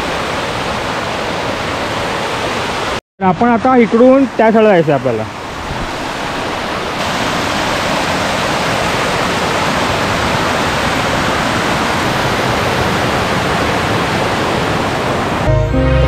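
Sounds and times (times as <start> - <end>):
floodwater rushing over weir: 0.0 - 15.5.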